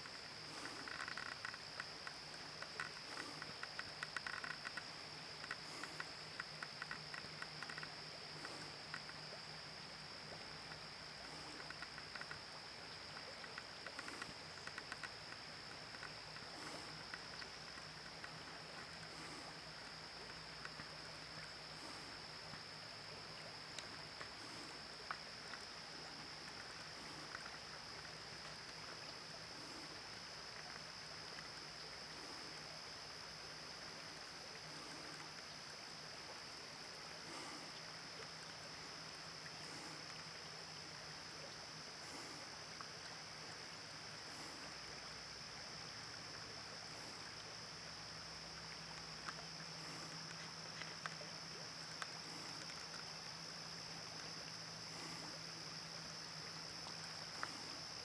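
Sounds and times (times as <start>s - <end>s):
faint soft sounds: 0.0s - 58.0s
river flowing: 0.0s - 58.0s
steady high-pitched hiss: 0.0s - 58.0s.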